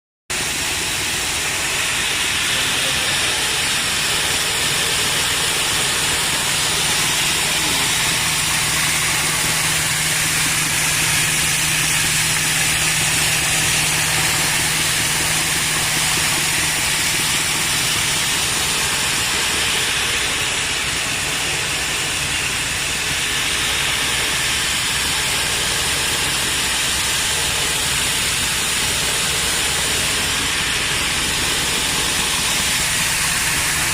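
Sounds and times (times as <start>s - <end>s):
rice milling machine running: 0.3s - 33.9s.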